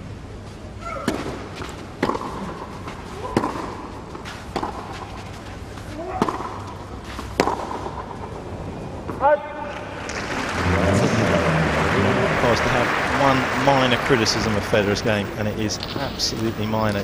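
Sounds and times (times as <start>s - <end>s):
racquets hitting tennis ball: 1.0s - 8.4s, 9.0s - 17.0s.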